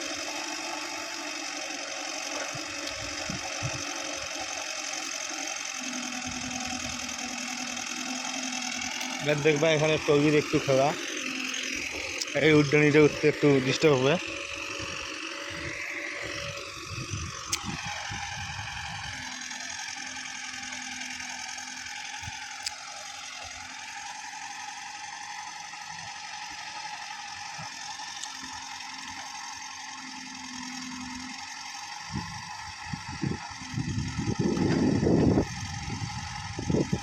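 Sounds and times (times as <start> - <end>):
mechanical clatter and rattling: 0.0 - 29.8
tractor engine running: 0.0 - 37.0.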